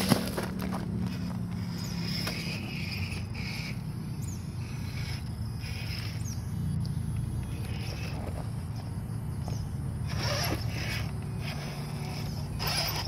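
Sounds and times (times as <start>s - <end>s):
electric motor and gears whining: 0.0s - 13.0s
steady low hum: 0.0s - 13.0s.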